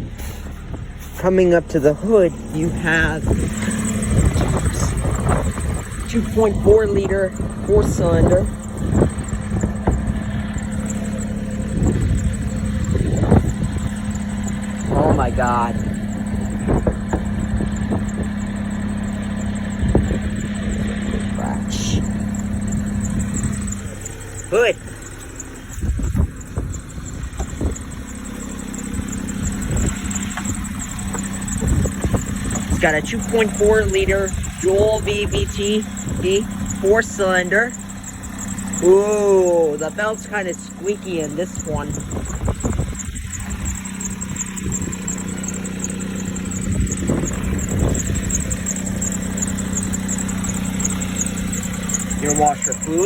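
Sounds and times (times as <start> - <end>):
car engine idling: 0.0 - 53.0
drive belt squeaking: 0.0 - 53.0.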